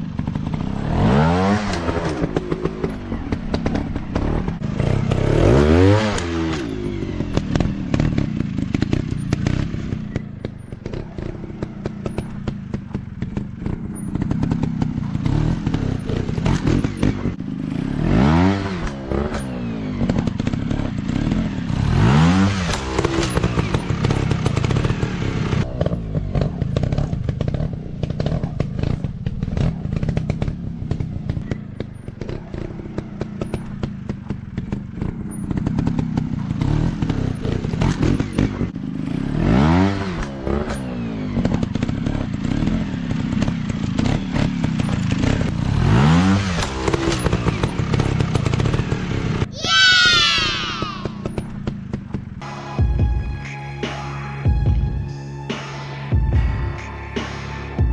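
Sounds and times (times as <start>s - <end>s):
dirt bike engine revving: 0.0s - 52.5s.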